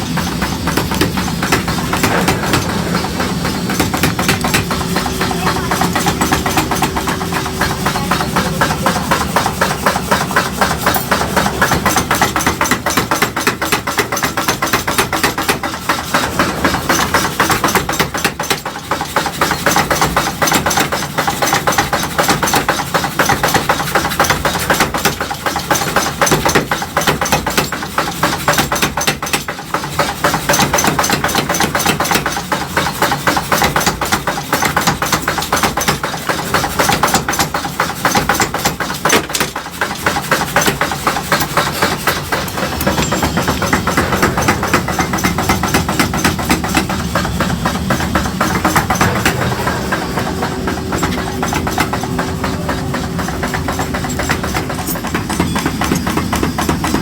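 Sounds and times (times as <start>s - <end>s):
rapid mechanical pounding: 0.0s - 57.0s.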